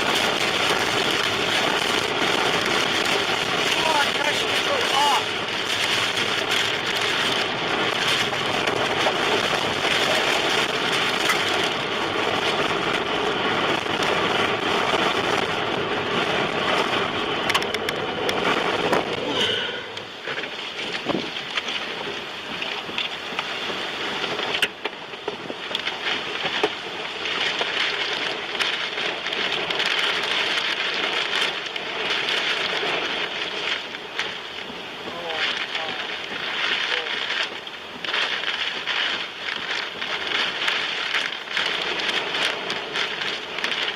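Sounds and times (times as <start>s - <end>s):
rain on car: 0.0s - 43.9s
road noise: 0.0s - 43.9s
wind: 0.0s - 43.9s.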